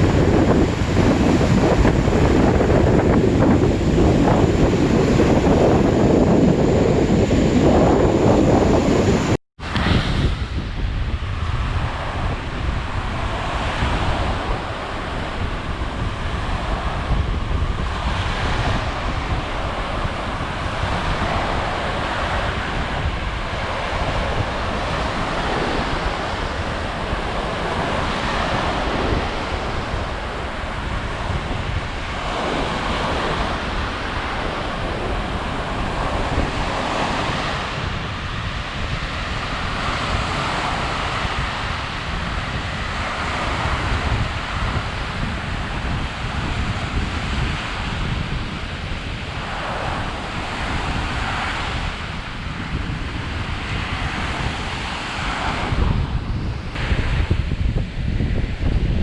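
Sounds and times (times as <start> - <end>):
waves breaking on beach: 0.0 - 59.0
wind rumbling on microphone: 0.0 - 59.0.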